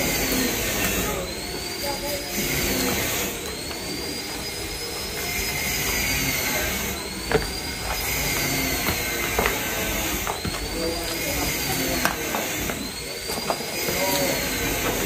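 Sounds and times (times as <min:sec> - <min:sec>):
whirring machine: 0:00.0 - 0:15.0.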